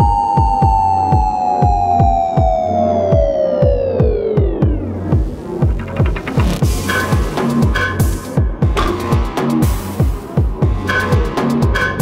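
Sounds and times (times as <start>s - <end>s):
deep kick drum: 0.0s - 11.8s.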